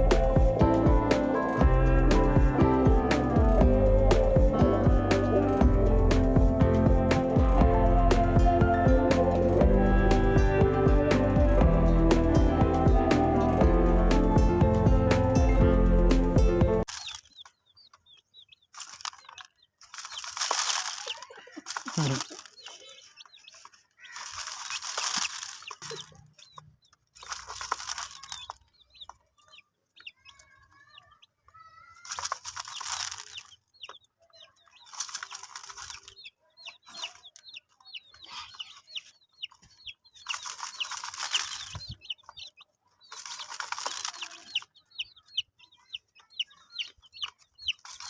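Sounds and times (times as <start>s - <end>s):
baby chicks peeping: 0.0s - 48.0s.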